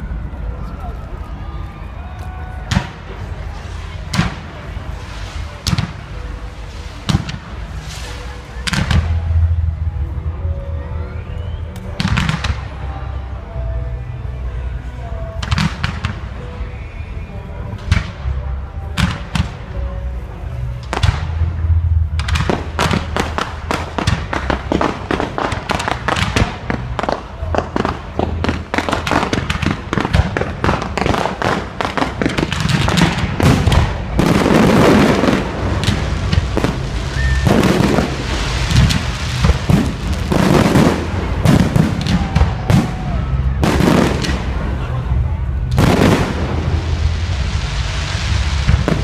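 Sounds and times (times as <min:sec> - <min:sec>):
fireworks bangs and crackles: 0:00.0 - 0:10.7, 0:11.7 - 0:14.1, 0:15.2 - 0:49.0.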